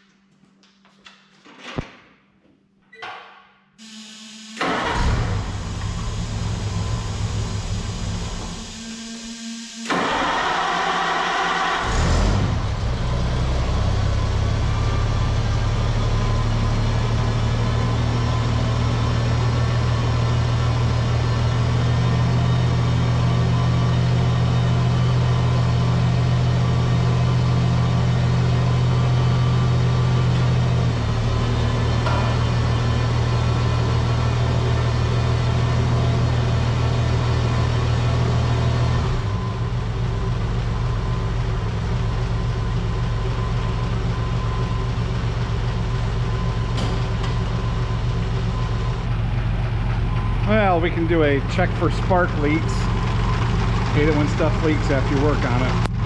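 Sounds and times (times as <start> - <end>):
tractor engine running: 4.6 - 56.0.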